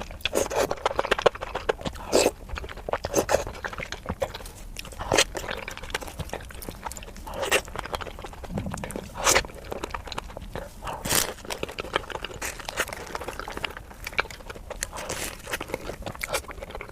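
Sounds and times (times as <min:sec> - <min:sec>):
crunchy chewing of fried chicken: 0:00.0 - 0:16.9.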